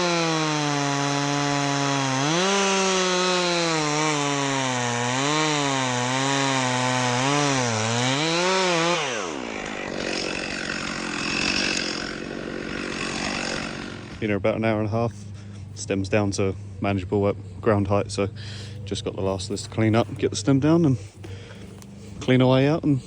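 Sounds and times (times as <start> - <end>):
chainsaw cutting wood: 0.0 - 15.5, 18.5 - 23.0.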